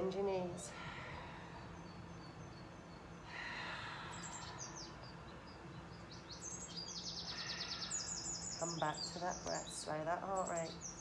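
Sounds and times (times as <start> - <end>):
bird chirps: 1.5 - 11.0
bird trill: 1.6 - 11.0.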